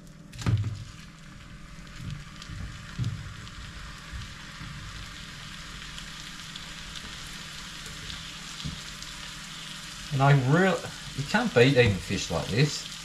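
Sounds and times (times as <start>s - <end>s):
fish sizzling in butter: 0.4s - 13.0s.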